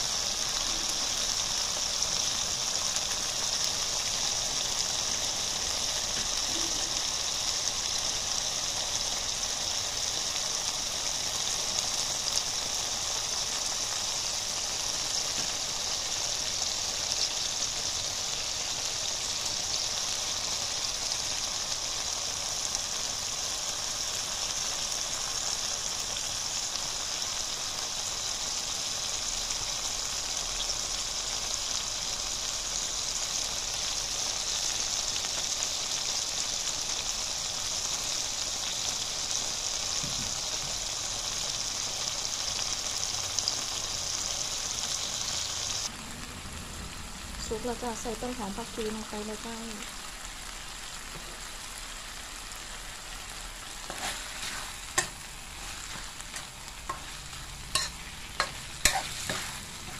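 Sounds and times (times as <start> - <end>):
sauce sizzling in a wok: 0.0 - 59.9.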